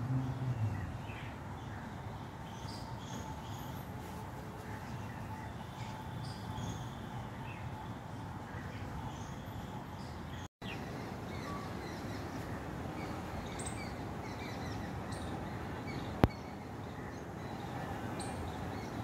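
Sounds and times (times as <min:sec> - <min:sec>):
steady ambient noise: 0:00.0 - 0:19.0.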